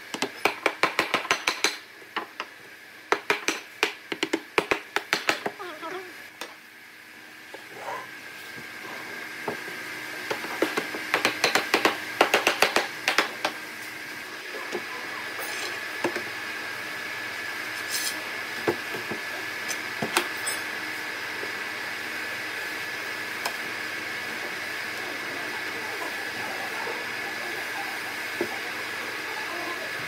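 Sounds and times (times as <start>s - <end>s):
steady high hum: 0.0s - 30.0s.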